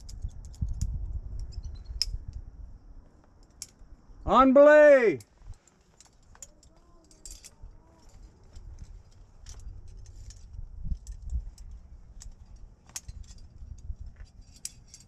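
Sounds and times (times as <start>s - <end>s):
metal climbing gear clinking: 0.0s - 2.4s, 3.2s - 3.9s, 5.2s - 15.0s.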